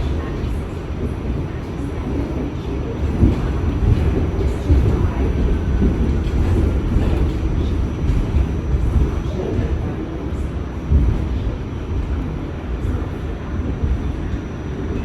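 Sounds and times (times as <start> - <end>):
subway wheels rumbling on rails: 0.0 - 15.0
train knocks and clunks: 0.0 - 15.0.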